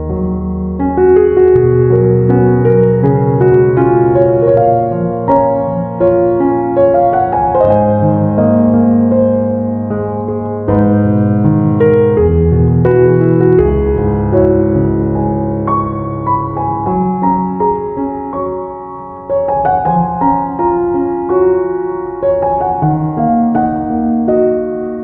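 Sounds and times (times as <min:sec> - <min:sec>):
soft slow piano music: 0:00.0 - 0:25.0.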